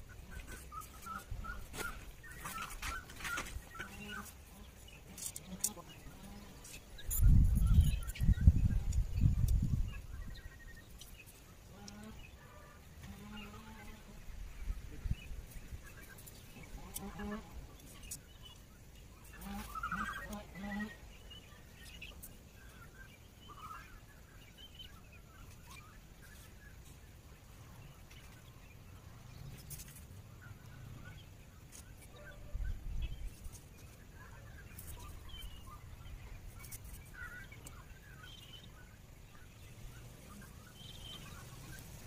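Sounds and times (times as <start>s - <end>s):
bird chirps: 0.0s - 12.4s, 14.6s - 42.0s.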